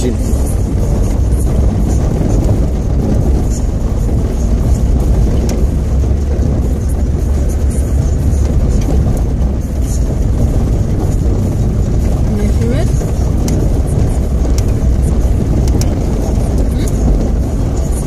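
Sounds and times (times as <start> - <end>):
engine and tyre rumble: 0.0 - 18.0
small clicks and rattles: 0.3 - 18.0.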